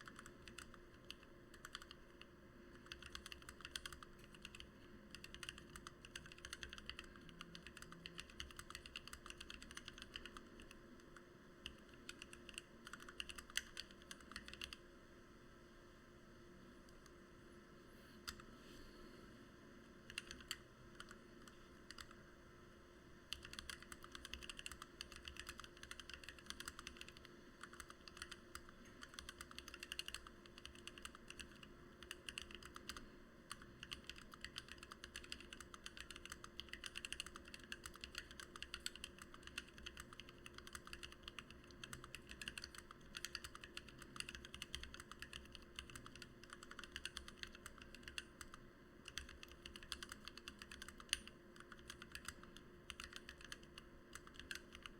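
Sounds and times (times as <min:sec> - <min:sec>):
fast mechanical keyboard typing: 0:00.0 - 0:14.8, 0:20.1 - 0:22.2, 0:23.3 - 0:54.9.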